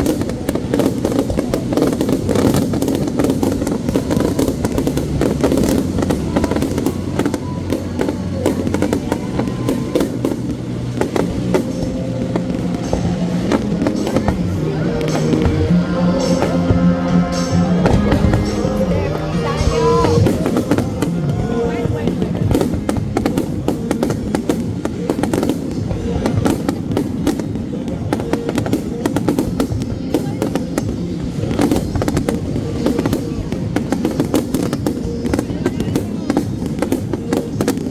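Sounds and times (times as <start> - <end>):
fireworks bangs and cracks: 0.0 - 37.9
music with low tones: 0.0 - 37.9.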